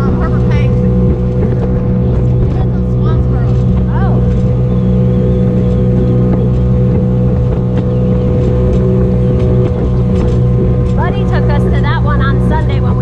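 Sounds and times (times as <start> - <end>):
motorboat engine drone: 0.0 - 13.0.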